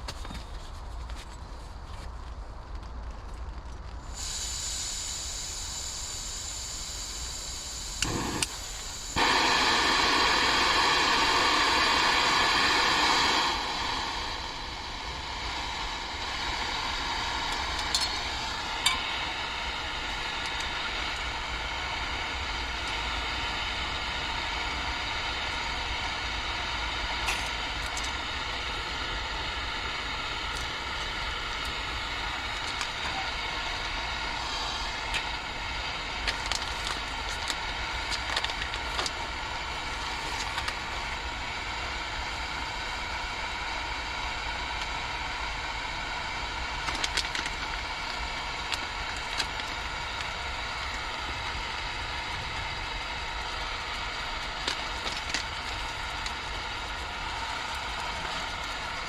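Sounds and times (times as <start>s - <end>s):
gas stove hissing: 3.9s - 59.0s.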